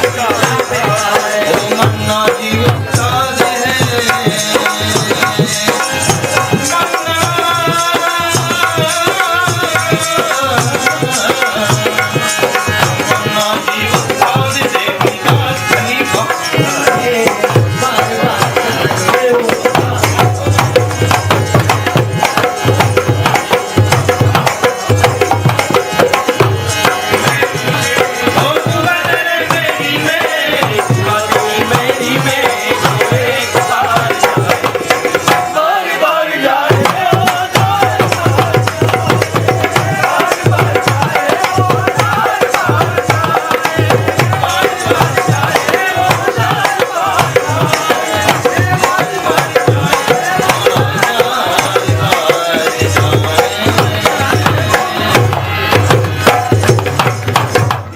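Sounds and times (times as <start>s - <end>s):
tabla playing fast rhythm: 0.0s - 57.9s.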